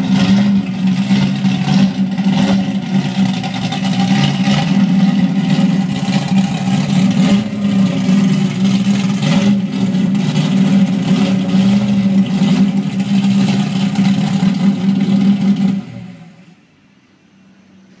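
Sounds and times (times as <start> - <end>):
car engine running loud: 0.0 - 16.6.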